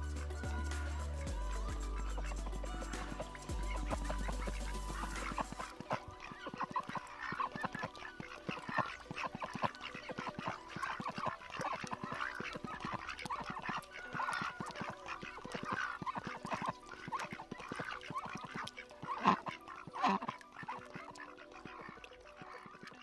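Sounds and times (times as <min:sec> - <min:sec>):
ducks quacking and chattering: 0:00.0 - 0:23.0.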